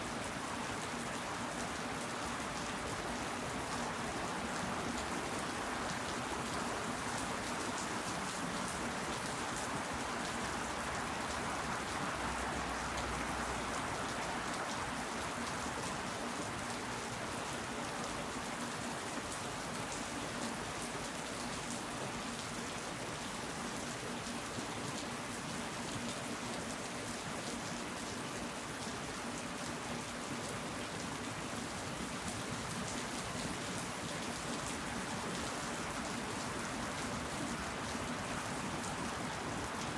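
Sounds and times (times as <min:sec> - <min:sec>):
rain pattering on leaves: 0:00.1 - 0:39.9.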